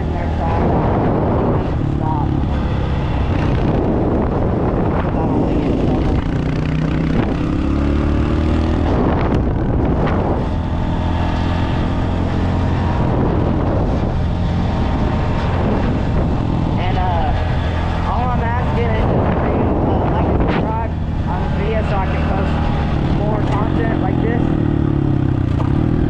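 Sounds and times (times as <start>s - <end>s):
dirt bike engine running: 0.0s - 26.0s
wind buffeting microphone: 0.0s - 26.0s.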